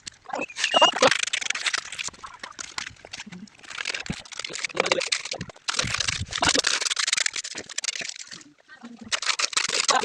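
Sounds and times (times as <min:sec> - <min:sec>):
wet concrete scraping and crunching: 0:00.0 - 0:10.0.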